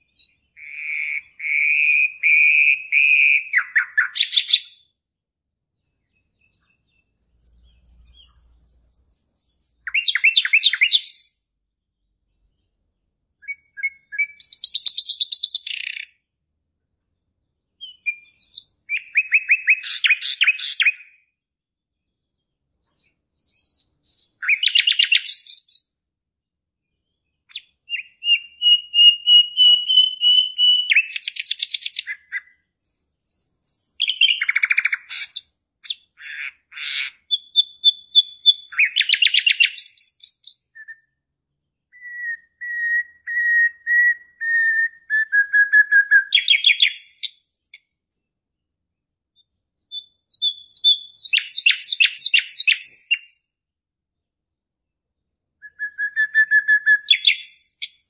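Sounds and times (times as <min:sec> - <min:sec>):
songbird singing trills: 0:00.0 - 0:05.0, 0:05.8 - 0:11.5, 0:13.4 - 0:16.3, 0:17.7 - 0:21.3, 0:22.1 - 0:26.0, 0:27.0 - 0:41.2, 0:41.9 - 0:47.9, 0:49.4 - 0:53.6, 0:55.6 - 0:58.0.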